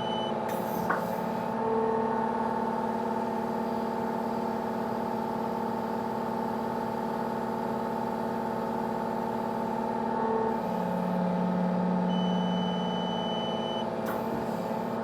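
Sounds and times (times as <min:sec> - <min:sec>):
diesel excavator engine running: 0:00.0 - 0:15.0.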